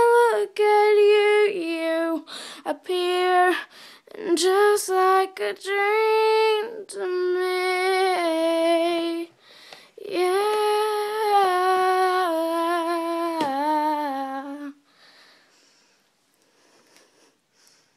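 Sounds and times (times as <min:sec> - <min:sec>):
girl singing wordless notes: 0:00.0 - 0:15.0.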